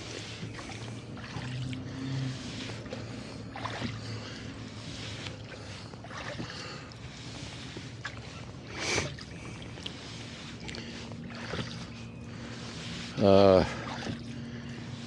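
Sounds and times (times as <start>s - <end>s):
oars swishing through water: 0.0s - 15.0s.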